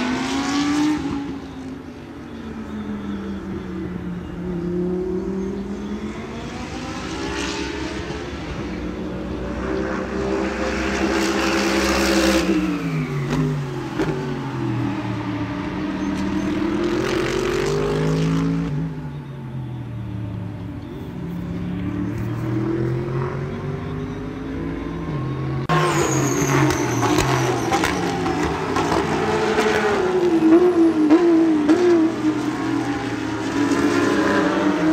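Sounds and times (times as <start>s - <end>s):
race cars passing by: 0.0s - 34.9s.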